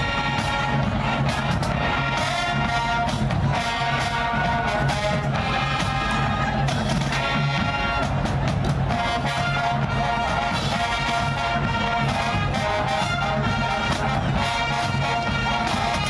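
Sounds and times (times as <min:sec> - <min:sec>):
brass section playing chords: 0:00.0 - 0:16.0
steady drum beat: 0:00.0 - 0:16.0.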